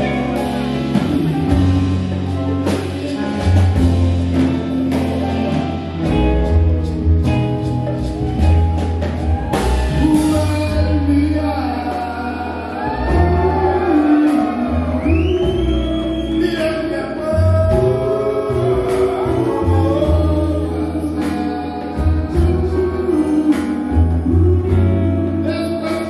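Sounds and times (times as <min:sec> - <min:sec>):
male lead vocal: 0:00.0 - 0:06.1, 0:09.8 - 0:26.0
soul band playing live: 0:00.0 - 0:26.0.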